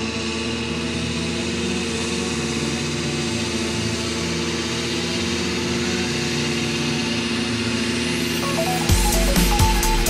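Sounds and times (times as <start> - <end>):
tractor engine running under load: 0.0 - 10.0.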